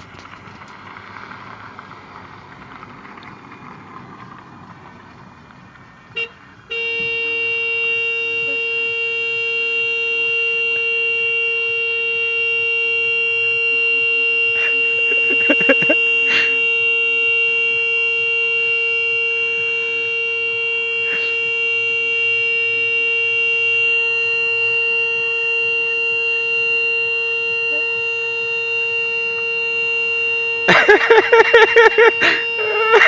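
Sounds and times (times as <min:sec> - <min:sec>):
car horn blast: 0:06.1 - 0:33.0.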